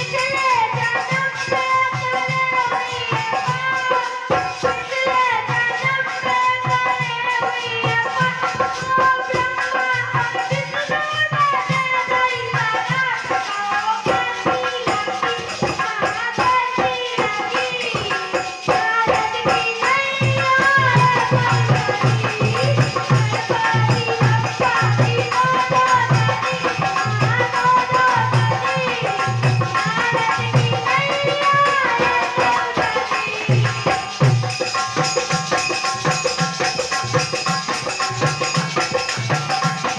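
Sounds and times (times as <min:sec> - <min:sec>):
hand drum beat: 0:00.0 - 0:39.9
shaken percussion: 0:00.0 - 0:39.9.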